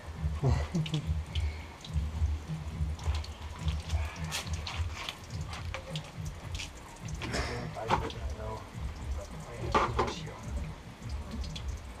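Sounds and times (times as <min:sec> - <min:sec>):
water splashing in basin: 0:00.4 - 0:12.0.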